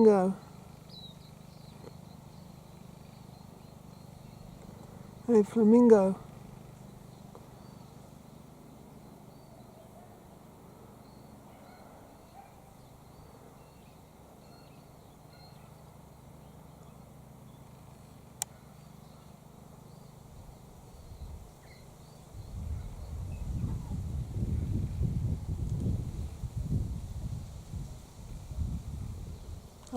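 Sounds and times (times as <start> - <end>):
small birds chirping: 0.0 - 26.2
steady low hum: 0.0 - 29.9.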